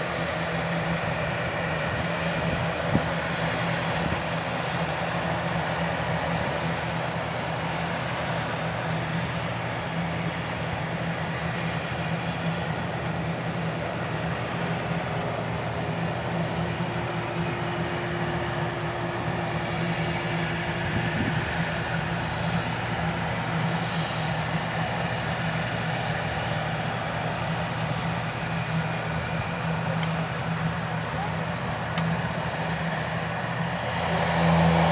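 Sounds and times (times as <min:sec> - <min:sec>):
turboprop engines droning: 0:00.0 - 0:34.9.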